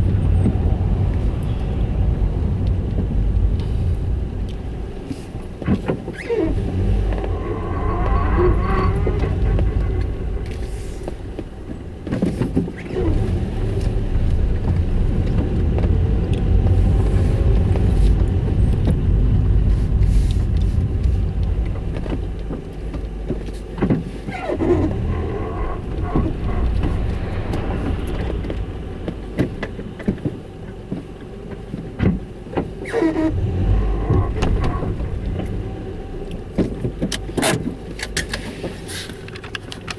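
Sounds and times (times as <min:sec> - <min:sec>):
car reversing with grinding rumble: 0:00.0 - 0:39.9.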